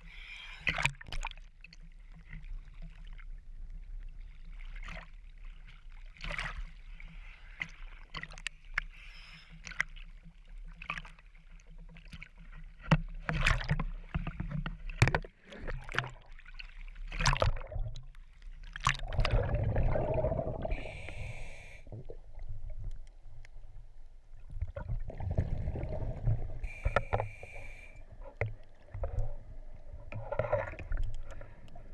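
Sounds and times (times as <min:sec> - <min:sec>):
small waves splashing against camera: 0:00.0 - 0:31.9.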